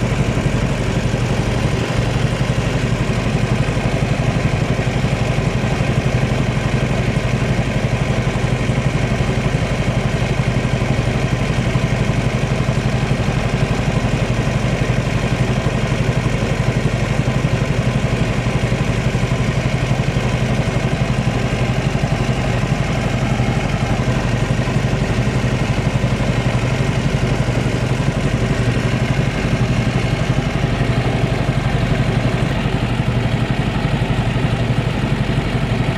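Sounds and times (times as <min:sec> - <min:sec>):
boat motor running: 0:00.0 - 0:35.9.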